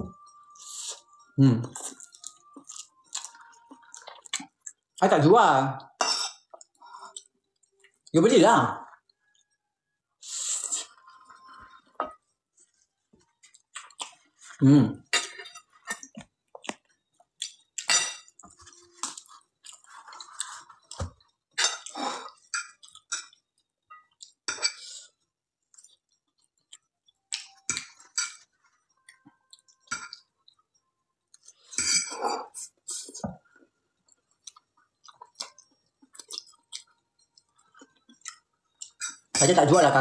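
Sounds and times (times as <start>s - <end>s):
person chewing: 0.2s - 5.0s, 6.0s - 8.1s, 12.6s - 30.7s, 31.3s - 39.4s.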